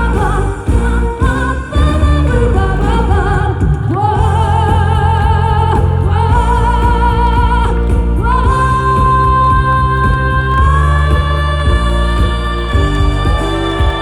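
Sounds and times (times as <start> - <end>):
backing track with bass beat: 0.0 - 14.0
person singing with vibrato: 0.0 - 14.0.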